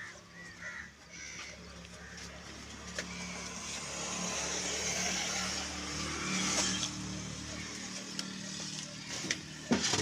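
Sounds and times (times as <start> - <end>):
engine humming: 1.4 - 10.0.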